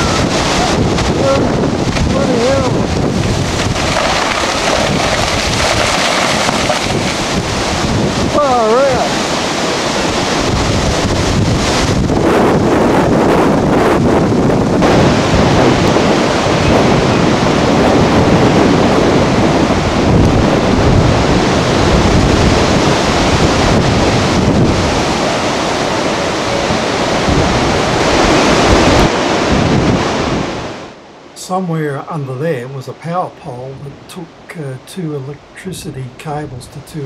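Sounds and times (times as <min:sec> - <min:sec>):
wind buffeting microphone: 0:00.0 - 0:31.0
gusty wind rushing through trees: 0:00.0 - 0:31.6.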